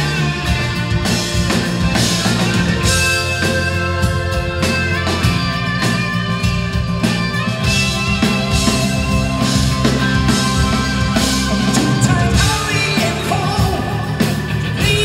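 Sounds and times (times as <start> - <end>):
bass guitar: 0.0 - 15.0
drum kit: 0.0 - 15.0
electric guitars: 0.0 - 15.0.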